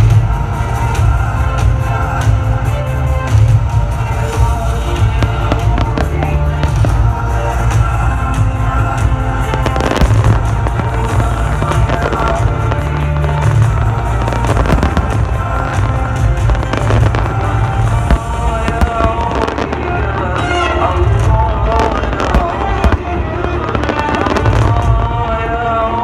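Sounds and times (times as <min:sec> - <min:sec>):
fireworks bangs and crackles: 0:00.0 - 0:26.0
loud music with heavy bass: 0:00.0 - 0:26.0.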